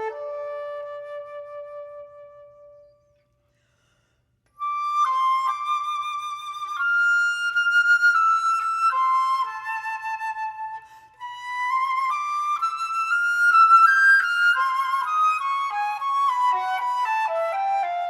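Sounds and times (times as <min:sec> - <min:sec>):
solo flute playing: 0:00.0 - 0:03.2, 0:04.5 - 0:18.0.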